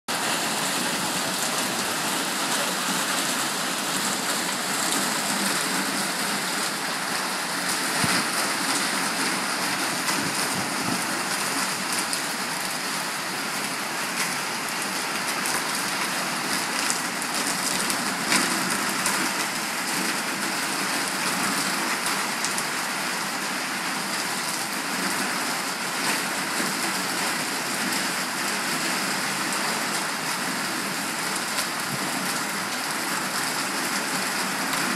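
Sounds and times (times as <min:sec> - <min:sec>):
heavy rain pouring: 0:00.1 - 0:34.9
rain splashes: 0:00.1 - 0:34.9.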